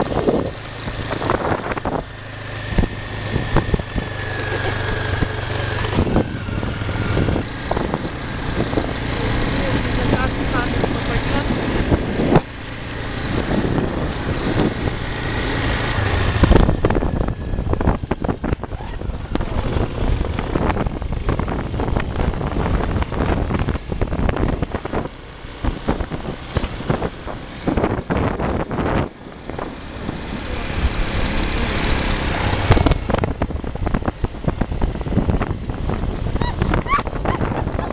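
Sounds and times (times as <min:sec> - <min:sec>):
motorcycle engine running: 0:00.0 - 0:37.9
wind over microphone: 0:00.0 - 0:37.9.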